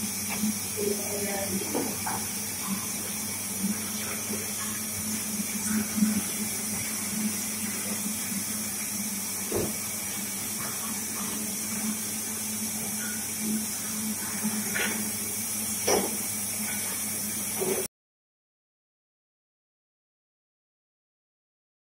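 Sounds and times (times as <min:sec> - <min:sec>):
rinse jets hissing: 0:00.0 - 0:17.9.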